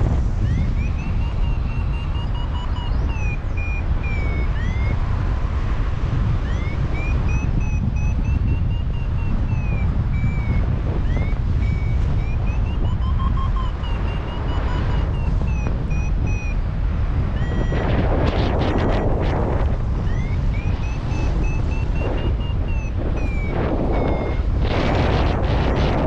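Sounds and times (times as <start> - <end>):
wind buffeting microphone: 0.0 - 26.0
variometer beeping in short pulses: 0.4 - 5.0, 6.4 - 16.6, 17.4 - 19.2, 20.0 - 26.0.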